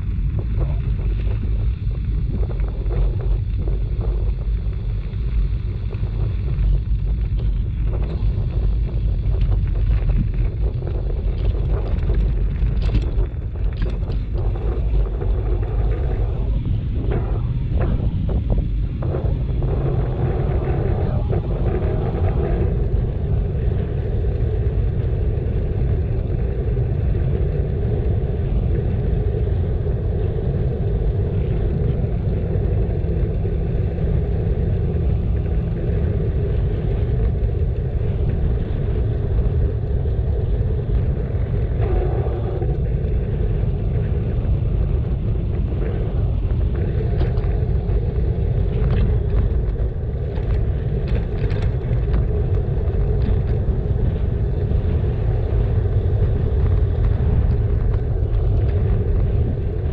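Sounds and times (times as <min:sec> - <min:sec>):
bicycle riding rumble: 0:00.0 - 0:59.9
wind: 0:00.0 - 0:59.9.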